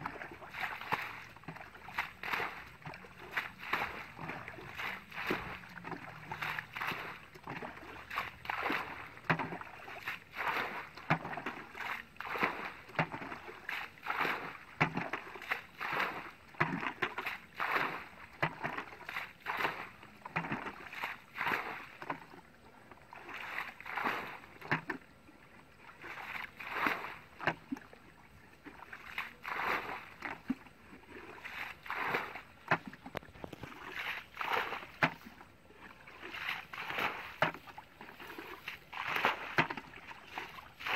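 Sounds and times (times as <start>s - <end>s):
water splashing and sloshing: 0.0s - 40.9s.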